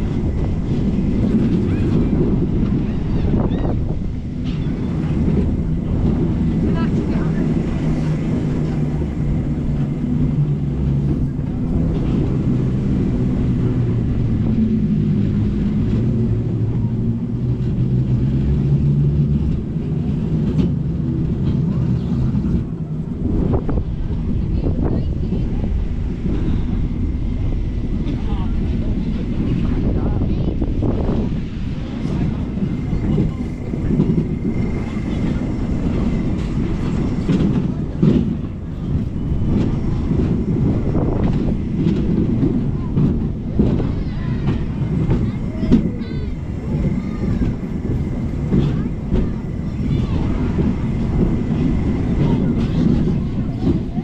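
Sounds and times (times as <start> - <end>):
small train rumbling on track: 0.0 - 54.0.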